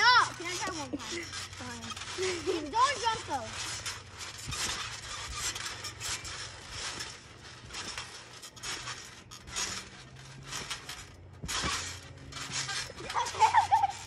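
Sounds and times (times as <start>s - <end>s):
trampoline springs creaking: 0.0s - 14.0s.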